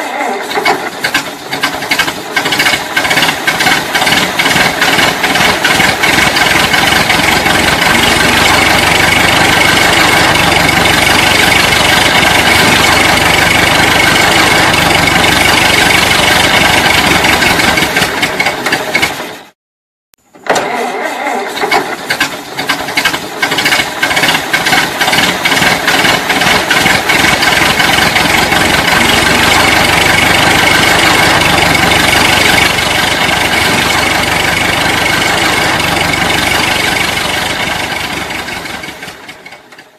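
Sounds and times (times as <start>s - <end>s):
engine cranking and catching: 0.0s - 19.5s, 20.3s - 39.9s
car engine running: 0.5s - 19.5s, 21.8s - 39.9s.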